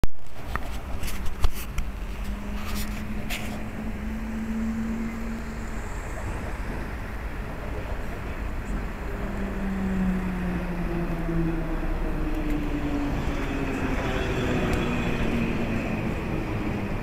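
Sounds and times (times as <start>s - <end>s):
city traffic rumble: 0.2s - 17.0s
tram on rails: 0.2s - 17.0s.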